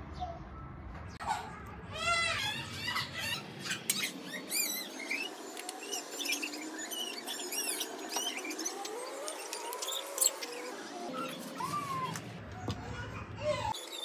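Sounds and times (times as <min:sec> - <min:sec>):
high-pitched squeaky chirps: 0:02.0 - 0:12.2, 0:12.9 - 0:14.0.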